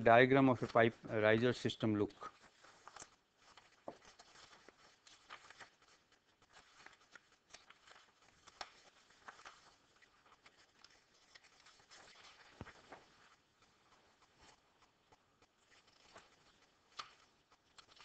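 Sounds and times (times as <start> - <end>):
paper sheets rustling: 0.0 - 18.0.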